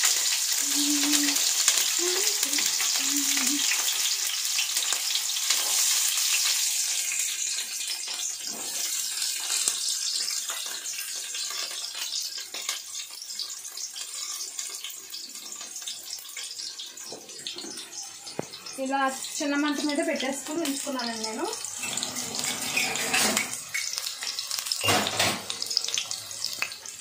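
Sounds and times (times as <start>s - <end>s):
chillies sizzling in hot oil: 0.0s - 27.0s.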